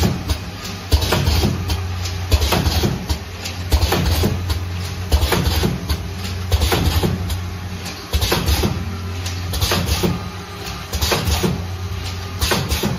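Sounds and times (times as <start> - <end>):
machine motor hum: 0.0 - 12.9
machine parts clicking and knocking: 0.0 - 12.9.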